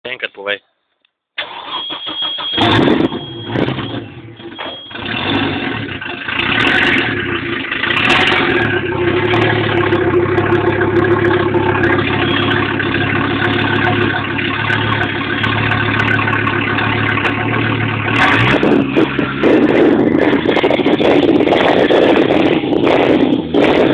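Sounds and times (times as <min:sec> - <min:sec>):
car engine running: 0:02.6 - 0:23.9.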